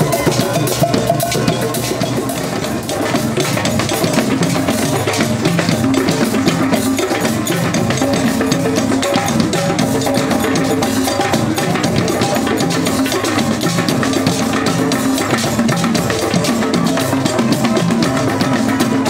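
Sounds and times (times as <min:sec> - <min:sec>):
hand drums playing: 0:00.0 - 0:19.0.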